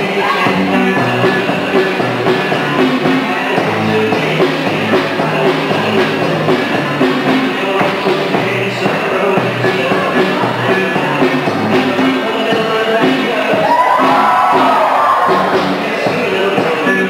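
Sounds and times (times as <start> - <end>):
square-dance band with guitar: 0.0 - 17.0.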